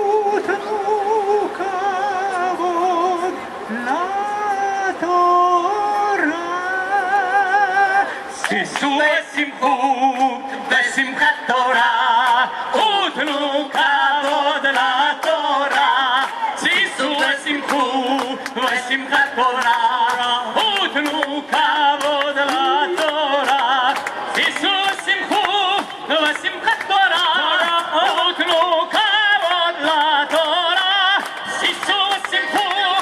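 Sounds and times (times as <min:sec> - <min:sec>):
group singing: 0:06.1 - 0:33.0.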